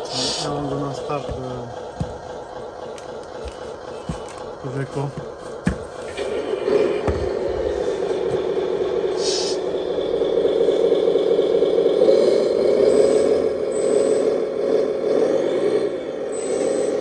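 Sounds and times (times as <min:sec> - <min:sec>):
simulated diesel engine from speaker: 0:00.0 - 0:17.0.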